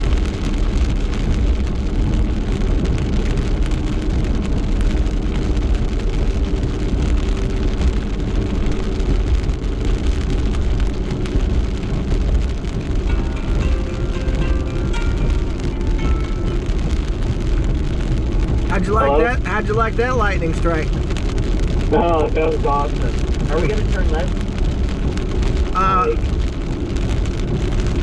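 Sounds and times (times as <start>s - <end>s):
car driving rumble: 0.0s - 28.0s
rain pelting a car: 0.0s - 28.0s.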